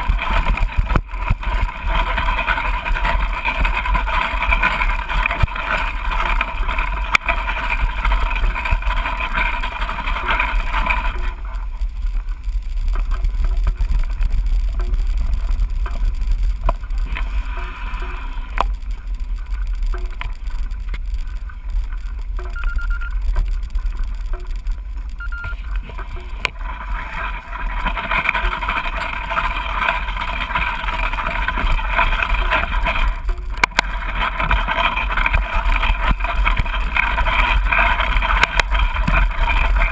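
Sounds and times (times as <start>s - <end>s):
low trail rumble: 0.0s - 39.9s.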